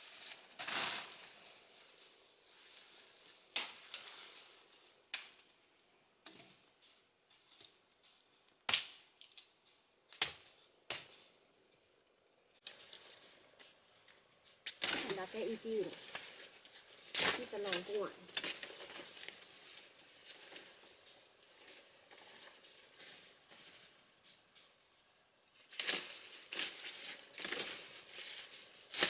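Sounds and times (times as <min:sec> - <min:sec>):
leaves and branches rustling: 0:00.0 - 0:29.0.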